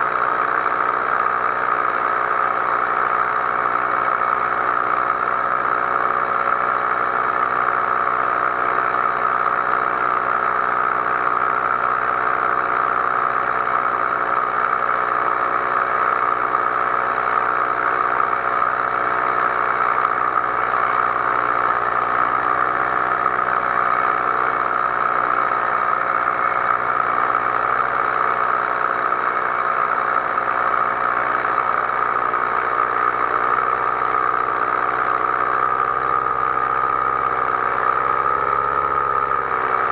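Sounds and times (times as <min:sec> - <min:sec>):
paraglider engine and propeller: 0:00.0 - 0:39.9.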